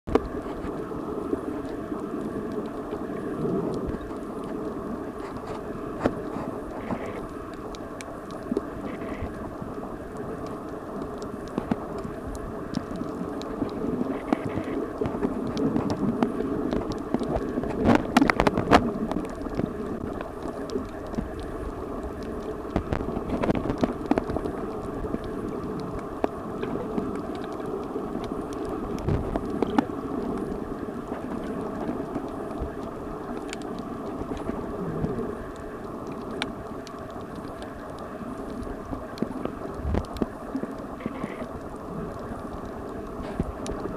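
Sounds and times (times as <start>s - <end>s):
muffled underwater rumble: 0.1s - 43.9s
sharp clicks underwater: 0.1s - 43.9s.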